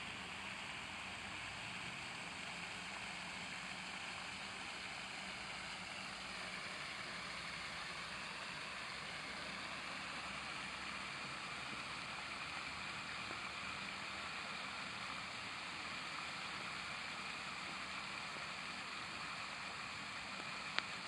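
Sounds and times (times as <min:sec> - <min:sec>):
fountain water jets splashing: 0:00.0 - 0:21.0.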